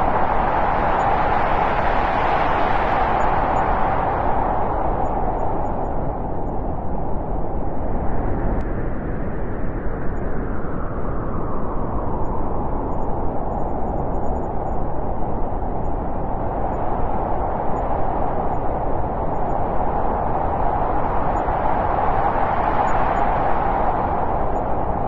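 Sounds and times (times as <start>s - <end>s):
wind blowing: 0.0s - 25.0s.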